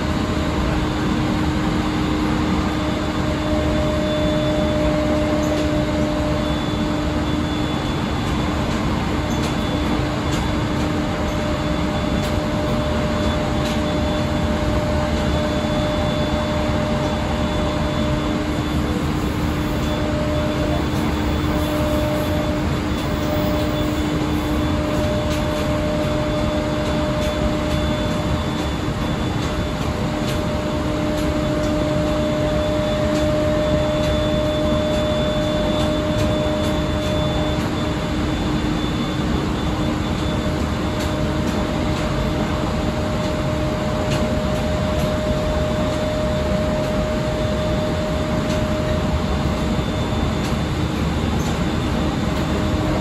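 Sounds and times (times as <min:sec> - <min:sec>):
steady hum: 0:00.0 - 0:53.0
train wheels on rail: 0:00.0 - 0:53.0.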